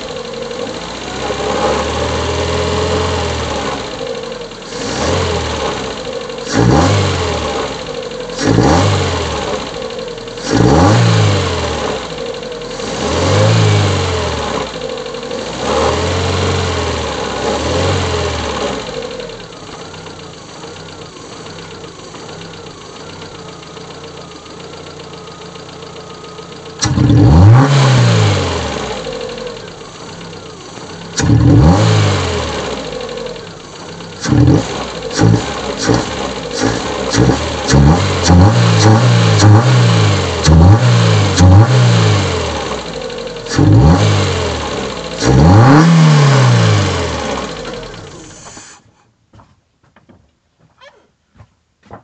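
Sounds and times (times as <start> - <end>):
car engine revving and idling: 0.0 - 48.8.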